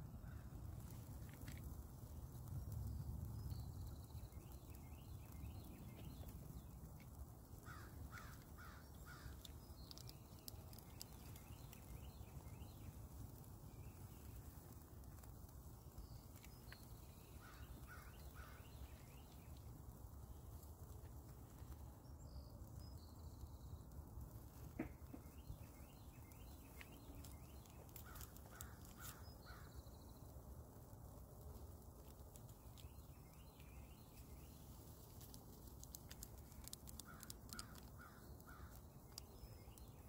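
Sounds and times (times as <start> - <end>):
small bird chirps: 0.8 - 20.4, 24.8 - 30.4, 32.0 - 40.0.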